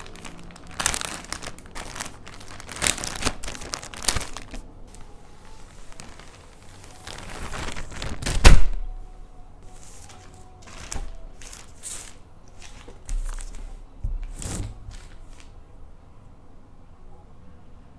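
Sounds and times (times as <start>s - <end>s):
packaging rustling: 0.0s - 8.8s, 9.7s - 15.6s.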